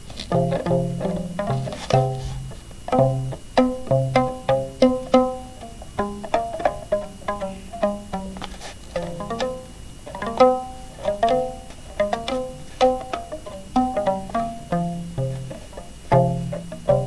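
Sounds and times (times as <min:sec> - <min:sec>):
plucked harp strings: 0:00.2 - 0:17.0.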